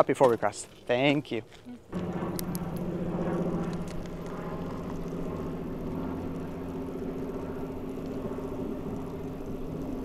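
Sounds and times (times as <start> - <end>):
bicycle tyre and wind noise: 0.0 - 10.0
low hum: 1.6 - 10.0.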